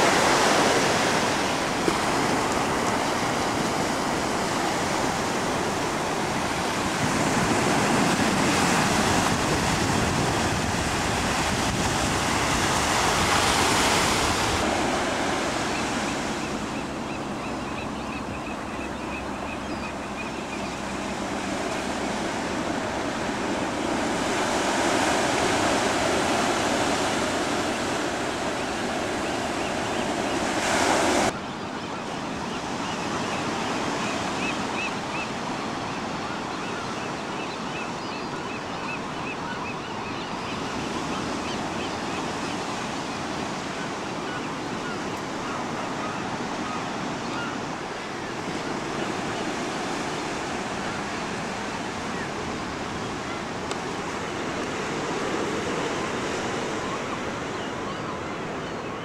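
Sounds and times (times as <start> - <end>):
surf waves breaking: 0.0 - 31.4, 40.7 - 58.9.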